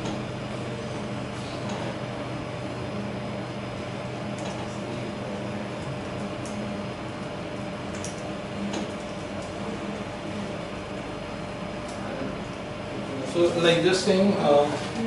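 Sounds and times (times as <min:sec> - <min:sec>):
ventilation machine hum: 0:00.0 - 0:15.0.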